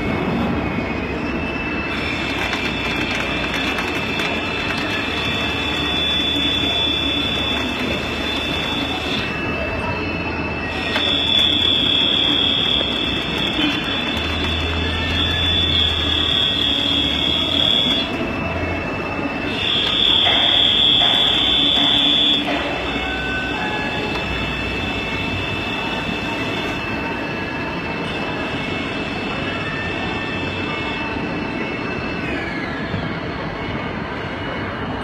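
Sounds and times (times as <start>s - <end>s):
louder higher machine whine: 0.0s - 32.1s
lathe mechanical whir: 0.0s - 34.6s
high-pitched machine whine: 0.0s - 35.0s.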